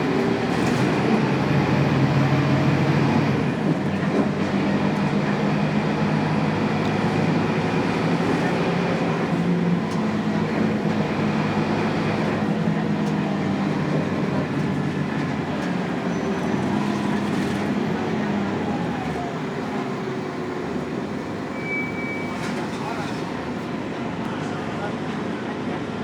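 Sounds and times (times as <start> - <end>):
diesel bus engine hum: 0.0 - 26.0.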